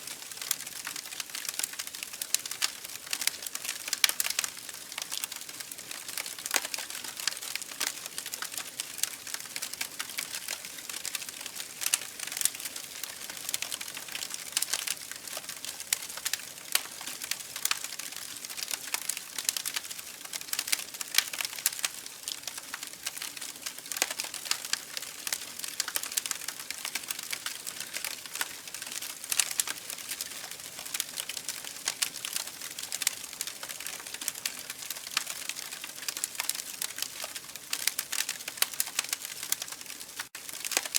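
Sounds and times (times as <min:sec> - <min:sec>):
campfire crackling and popping: 0:00.1 - 0:40.9.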